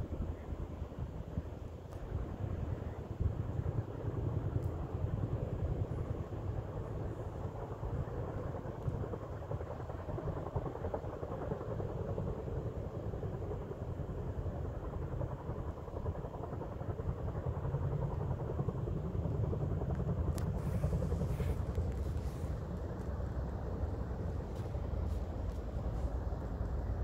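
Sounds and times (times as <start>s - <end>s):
helicopter rotor rumble: 0.0s - 27.0s.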